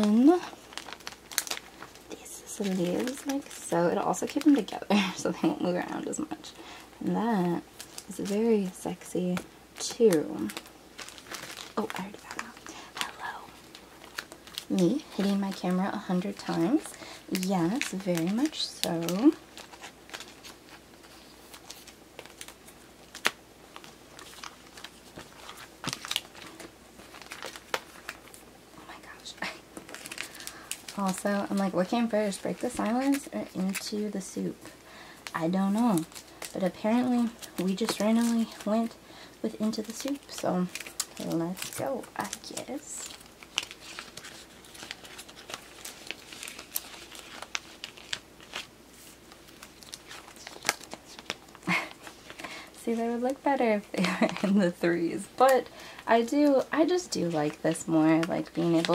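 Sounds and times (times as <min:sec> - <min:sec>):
plastic sleeves crinkling: 0:00.0 - 0:58.9.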